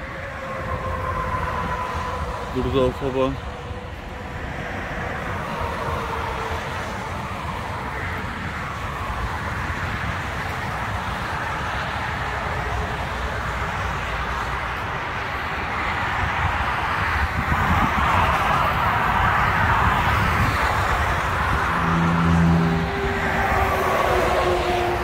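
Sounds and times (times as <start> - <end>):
motorway traffic passing: 0.0 - 25.0.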